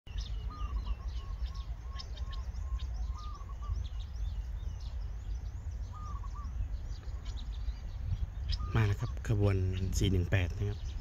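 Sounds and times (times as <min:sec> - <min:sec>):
birds chirping and calling: 0:00.1 - 0:11.0.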